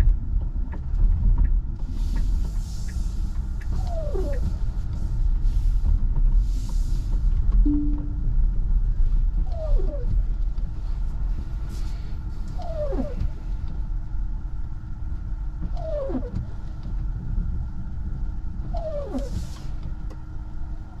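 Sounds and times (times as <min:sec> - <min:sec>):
road and tyre rumble: 0:00.0 - 0:07.6, 0:08.2 - 0:21.0.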